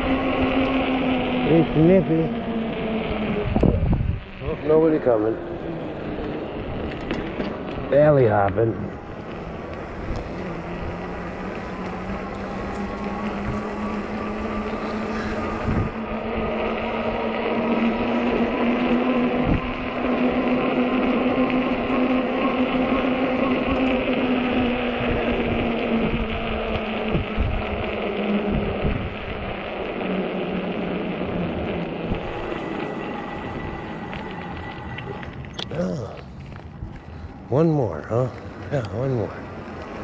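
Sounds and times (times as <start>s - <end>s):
electric bike motor whine: 0.0s - 40.0s
road and wind noise: 0.0s - 40.0s.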